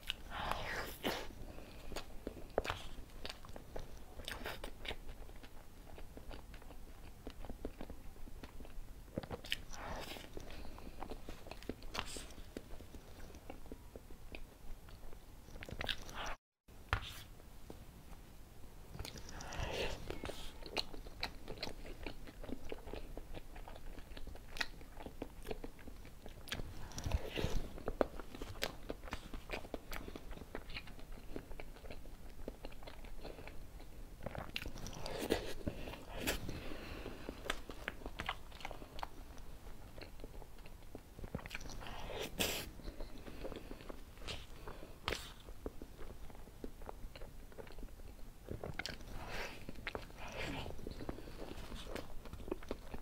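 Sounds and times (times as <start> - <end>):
wet chewing and lip smacks: 0.0 - 16.4, 18.9 - 53.0.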